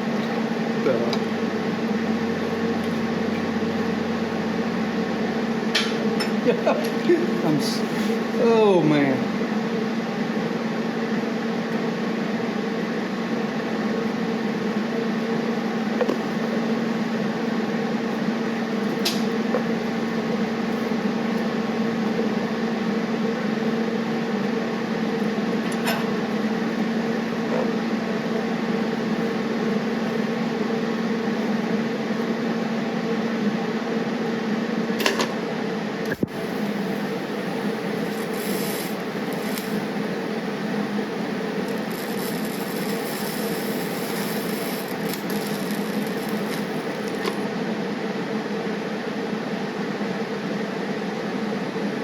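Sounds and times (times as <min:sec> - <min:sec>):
machine humming: 0:00.0 - 0:48.7.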